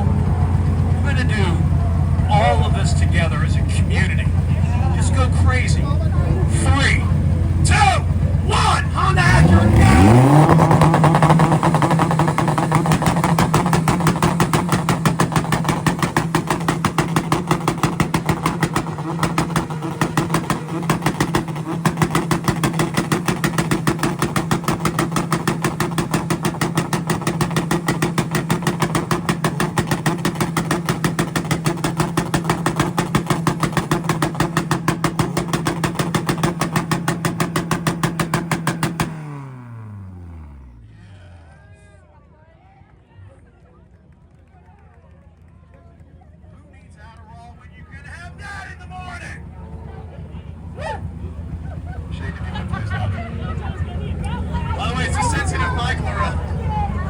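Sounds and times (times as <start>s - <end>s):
car engines bouncing off rev limiter: 0.0s - 42.0s, 42.8s - 57.0s.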